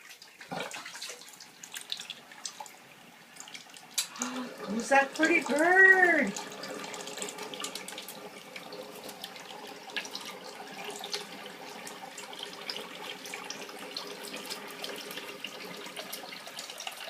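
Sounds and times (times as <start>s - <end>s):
tap water running: 0.0s - 17.0s.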